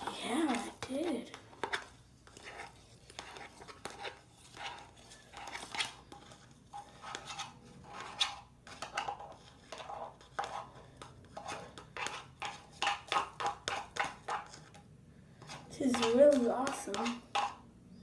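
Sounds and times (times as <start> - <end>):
plastic knife scraping slime: 0.0 - 14.8, 15.4 - 17.6.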